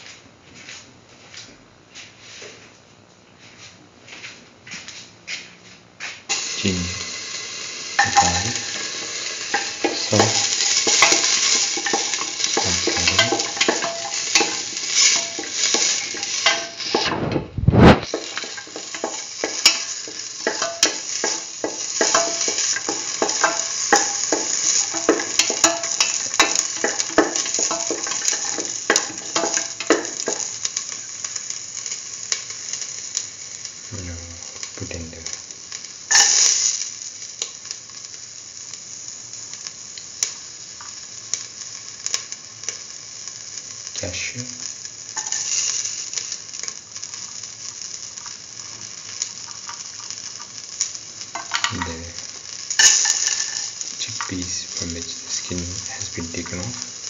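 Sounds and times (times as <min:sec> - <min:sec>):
food sizzling in hot oil: 0:06.3 - 0:57.0
loud hiss: 0:06.3 - 0:57.0.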